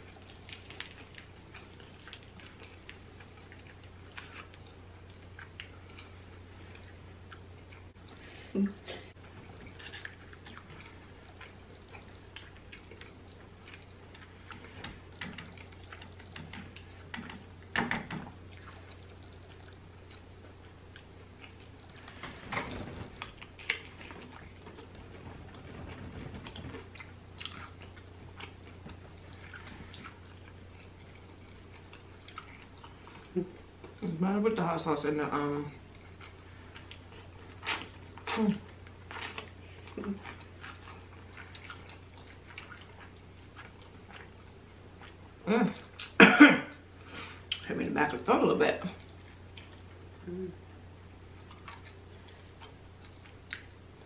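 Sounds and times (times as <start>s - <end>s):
chewing crispy chicken: 0.0s - 8.2s, 9.4s - 34.1s, 35.7s - 47.7s, 51.3s - 54.0s.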